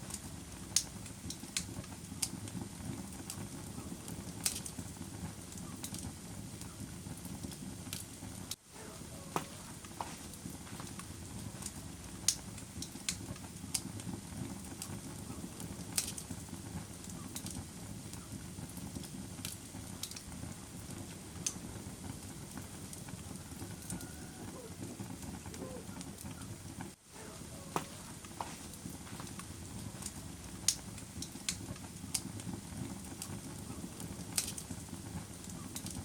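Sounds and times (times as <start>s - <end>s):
fire popping and snapping: 0.0s - 36.0s
wood fire crackling: 0.0s - 36.0s.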